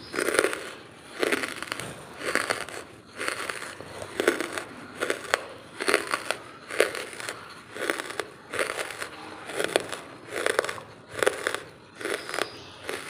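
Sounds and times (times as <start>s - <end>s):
charcoal being chewed: 0.0s - 13.0s.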